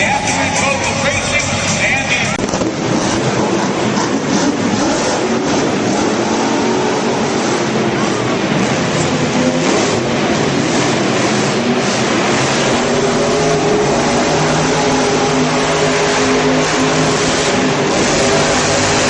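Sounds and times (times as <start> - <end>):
monster truck engine running: 0.0 - 19.0.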